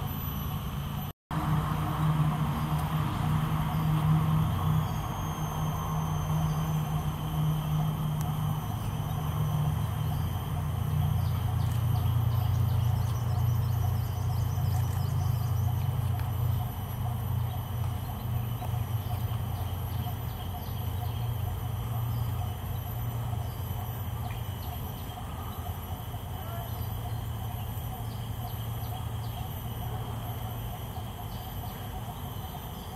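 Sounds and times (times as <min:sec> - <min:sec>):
distant road traffic rumble: 0:00.0 - 0:32.9.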